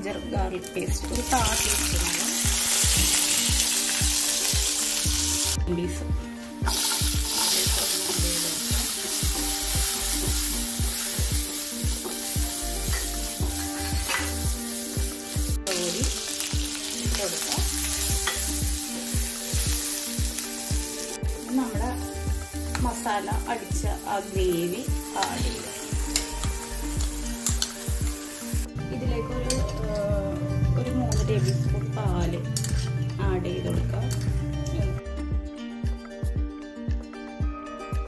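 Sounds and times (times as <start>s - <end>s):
spices sizzling in hot oil: 0.0s - 5.6s, 6.4s - 28.8s, 29.4s - 34.9s.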